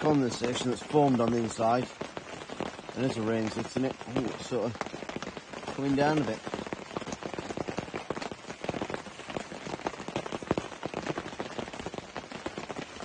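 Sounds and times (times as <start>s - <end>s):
rain on a tent: 0.0s - 13.0s.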